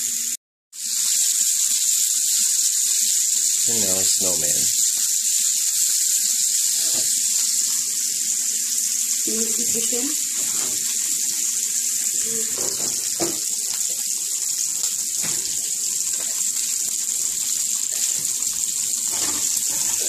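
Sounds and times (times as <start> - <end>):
batter frying on a griddle: 0.0 - 20.0.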